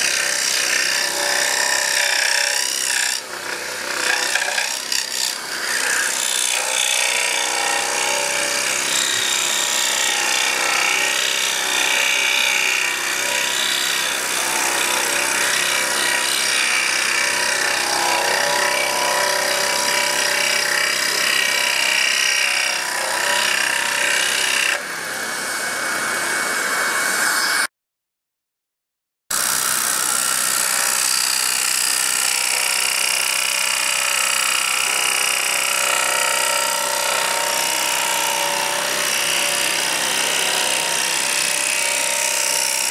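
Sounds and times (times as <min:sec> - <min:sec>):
scroll saw cutting wood: 0:00.0 - 0:27.7, 0:29.3 - 0:42.9.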